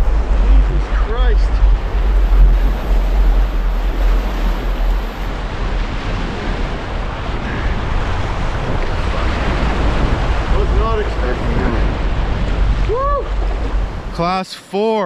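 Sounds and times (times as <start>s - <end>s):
wind buffeting microphone: 0.0s - 14.3s
whitewater rushing: 0.0s - 15.0s.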